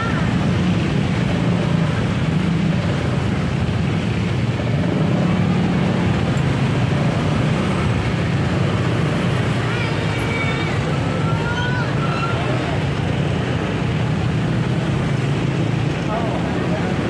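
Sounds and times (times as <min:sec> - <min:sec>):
scooter engines humming: 0:00.0 - 0:17.0
street traffic noise: 0:00.0 - 0:17.0.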